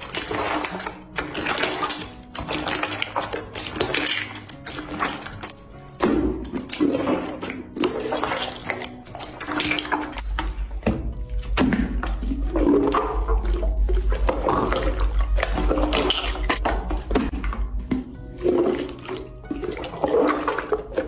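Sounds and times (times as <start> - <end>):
slime squelching: 0.0 - 21.0.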